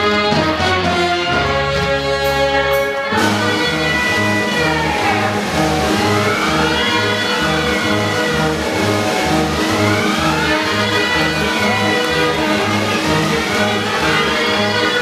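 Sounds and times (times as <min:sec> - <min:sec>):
circus band music: 0:00.0 - 0:15.0.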